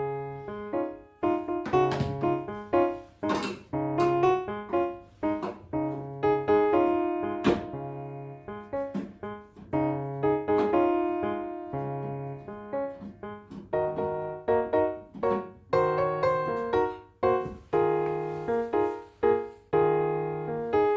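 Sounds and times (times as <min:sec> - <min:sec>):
solo piano music: 0:00.0 - 0:20.9.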